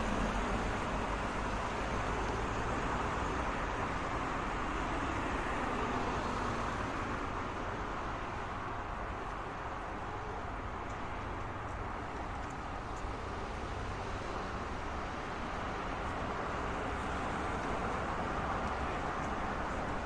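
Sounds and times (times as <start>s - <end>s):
passing cars and tyre noise: 0.0s - 20.0s.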